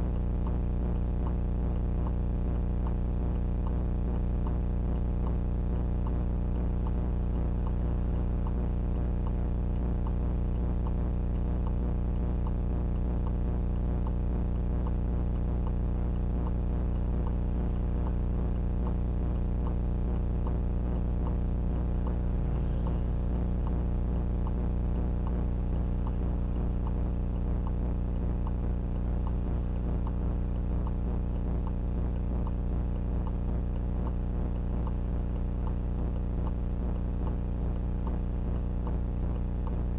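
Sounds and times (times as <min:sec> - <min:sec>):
electrical hum: 0:00.0 - 0:39.9
regular ticking: 0:00.0 - 0:39.9.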